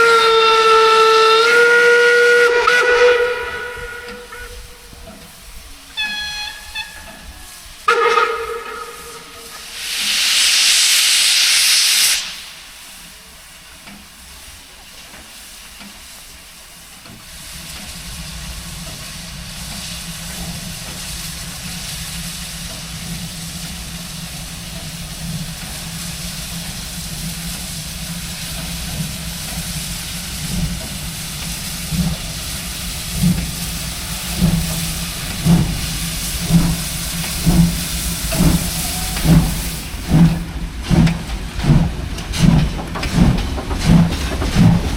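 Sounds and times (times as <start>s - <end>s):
locomotive rumble: 0.0s - 44.9s
steam hissing: 0.0s - 44.9s
steam locomotive exhaust chuffs: 0.0s - 44.9s.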